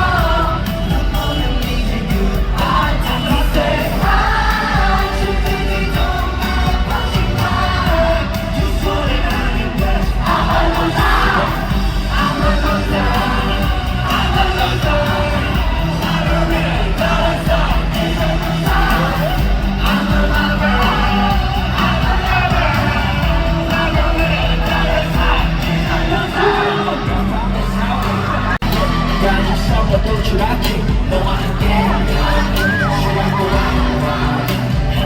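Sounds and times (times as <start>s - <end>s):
audience yelling along: 0.0s - 35.0s
live pop song over sound system: 0.0s - 35.0s.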